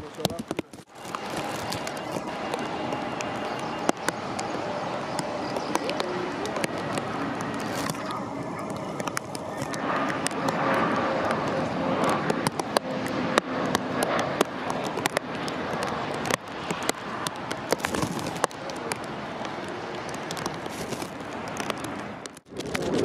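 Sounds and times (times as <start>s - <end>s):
jet engines rushing: 0.0s - 23.0s
sharp crackles: 0.0s - 23.0s.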